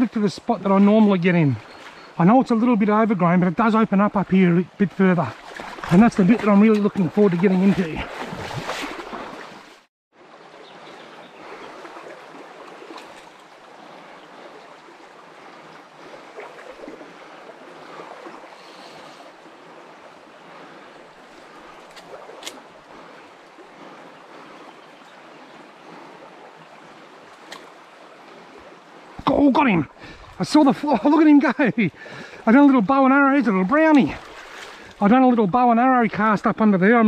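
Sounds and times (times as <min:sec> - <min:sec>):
creek water burbling: 0:00.0 - 0:37.0.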